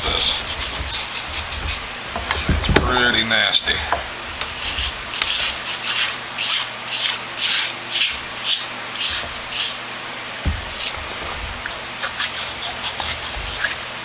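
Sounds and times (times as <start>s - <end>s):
scrubbing brush strokes: 0.0s - 14.0s.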